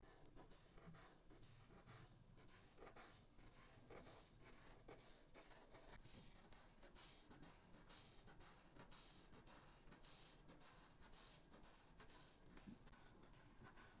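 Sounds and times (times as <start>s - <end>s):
marker scratching on paper: 0.0s - 14.0s.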